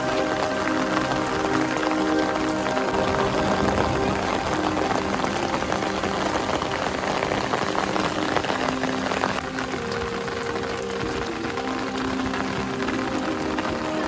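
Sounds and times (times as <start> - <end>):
rain pattering on surfaces: 0.0 - 14.0
soft music of held notes: 0.0 - 14.0.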